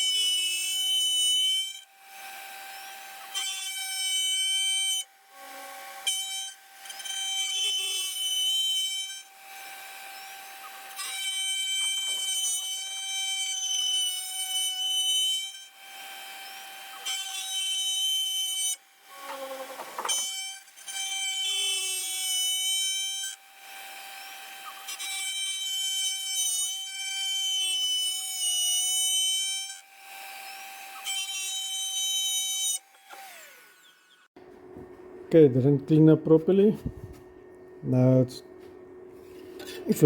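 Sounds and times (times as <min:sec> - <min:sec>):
router spindle whining: 0:00.0 - 0:35.2
bit cutting wood: 0:00.0 - 0:37.0.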